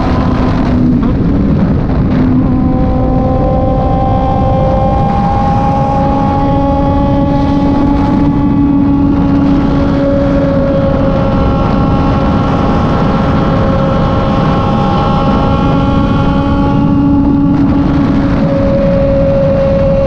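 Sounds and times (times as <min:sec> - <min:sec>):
low rushing noise: 0:00.0 - 0:20.0
single-cylinder engine cruising: 0:00.0 - 0:20.0.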